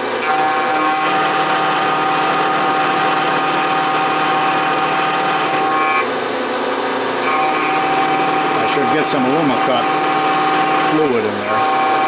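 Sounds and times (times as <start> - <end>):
milling machine cutting with whine: 0.0 - 12.0.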